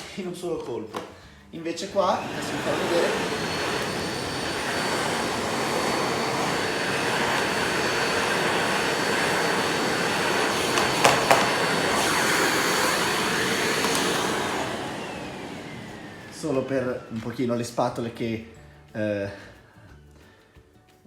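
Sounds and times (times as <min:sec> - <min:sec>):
vacuum cleaner with high whine: 0:01.7 - 0:18.6.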